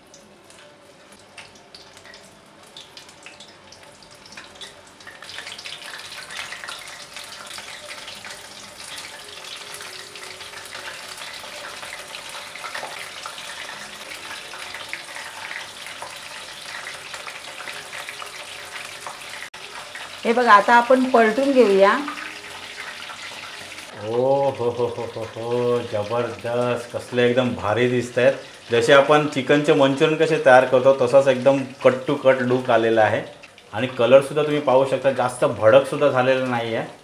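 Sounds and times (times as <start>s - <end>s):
food deep-frying in hot oil: 0.0s - 37.0s.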